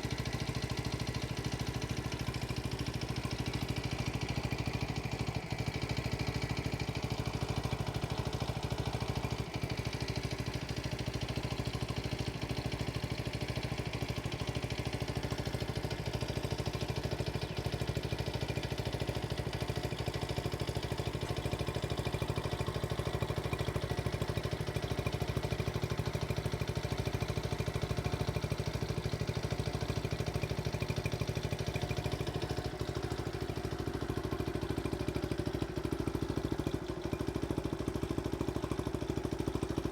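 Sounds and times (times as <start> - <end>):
small motorbike engine idling: 0.0 - 39.9.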